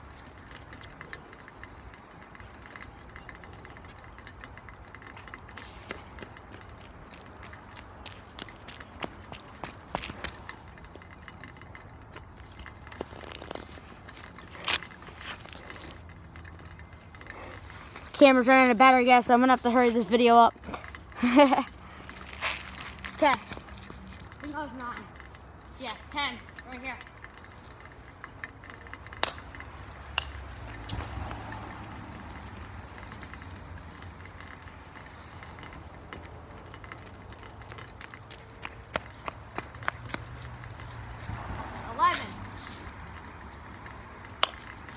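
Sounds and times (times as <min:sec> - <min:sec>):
footsteps on pavement: 0:00.0 - 0:25.1, 0:27.0 - 0:44.9.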